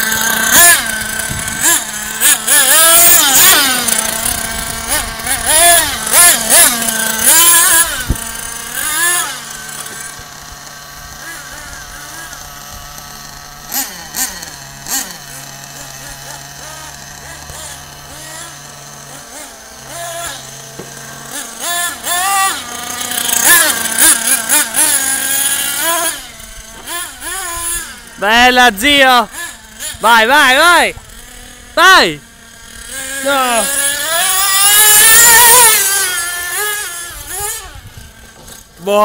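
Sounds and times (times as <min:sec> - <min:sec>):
rc truck engine revving: 0:00.0 - 0:39.0.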